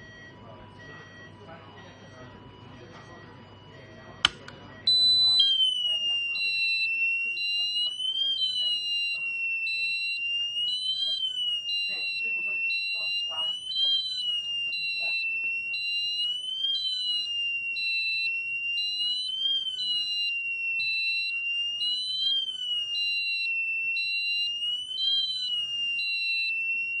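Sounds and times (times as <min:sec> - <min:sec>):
high-pitched alarm beeping: 0:00.0 - 0:27.0
piercing fire alarm tone: 0:00.0 - 0:27.0.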